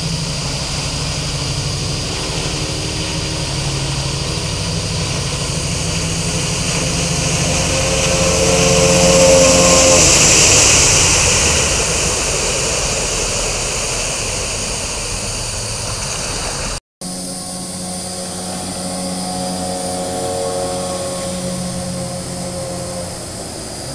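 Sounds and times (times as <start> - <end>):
boat wake rushing: 0.0 - 23.9
distant engine drone: 0.0 - 23.9
outboard motor running at speed: 0.0 - 23.9.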